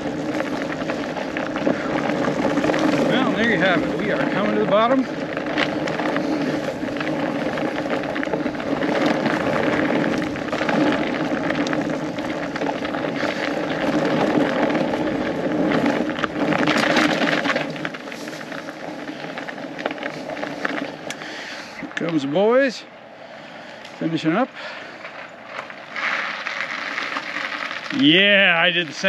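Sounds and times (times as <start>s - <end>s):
crackles and rattles: 0.0s - 29.0s
tires rolling on snow: 0.0s - 29.0s.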